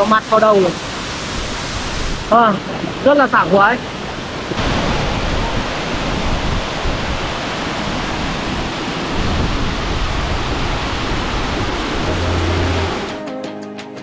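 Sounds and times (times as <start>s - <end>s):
waterfall roaring: 0.0s - 13.2s.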